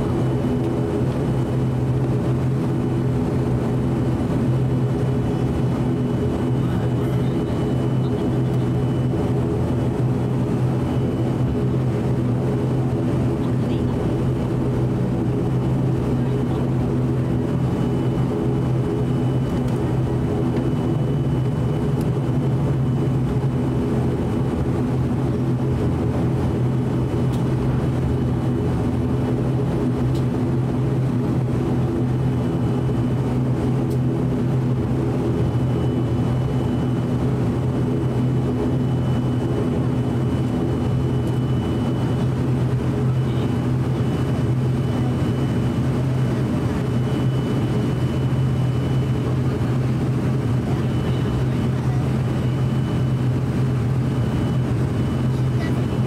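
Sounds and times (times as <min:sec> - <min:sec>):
propeller engine drone: 0:00.0 - 0:56.0.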